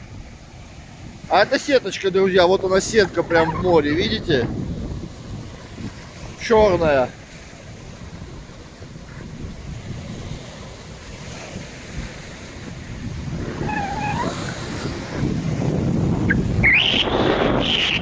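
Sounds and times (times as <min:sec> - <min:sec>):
sea surf washing onto beach: 0:00.0 - 0:18.0
wind buffeting microphone: 0:00.0 - 0:18.0.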